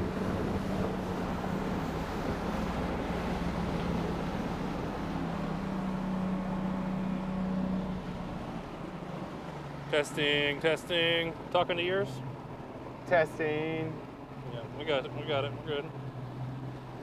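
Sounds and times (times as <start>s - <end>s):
outboard motor droning: 0.0s - 17.0s
rush of wind and water: 0.0s - 17.0s.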